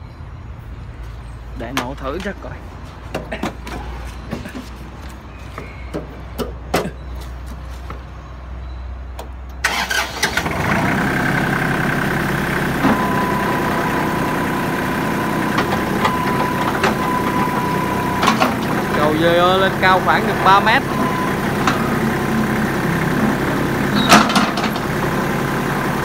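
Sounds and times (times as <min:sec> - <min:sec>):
diesel engine cranking and idling: 0:00.4 - 0:26.0.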